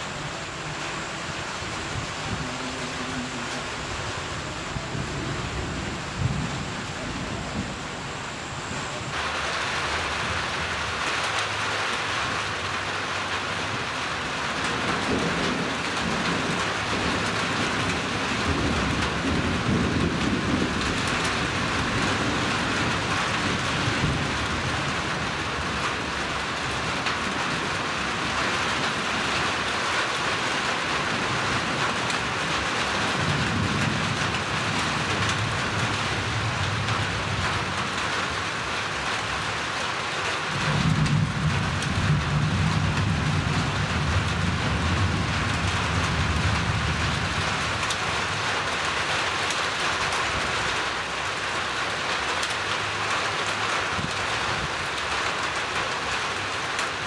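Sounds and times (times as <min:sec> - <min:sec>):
low thunder rumbling: 0:00.0 - 0:53.2
steady rain falling: 0:00.0 - 0:57.0.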